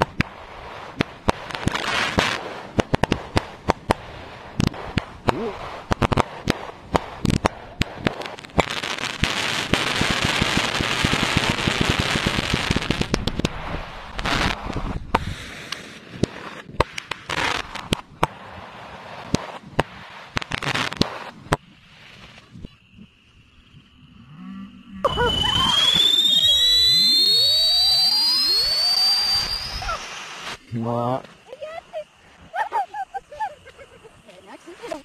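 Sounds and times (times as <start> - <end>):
fireworks bangs and pops: 0.0 - 23.8, 25.1 - 35.0
fireworks crackling: 0.0 - 24.0, 25.0 - 35.0.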